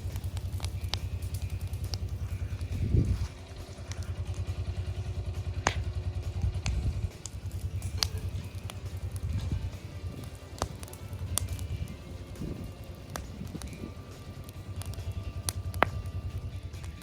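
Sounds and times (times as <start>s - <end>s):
burning brush popping: 0.0s - 17.0s
utility vehicle engine idling: 0.0s - 17.0s.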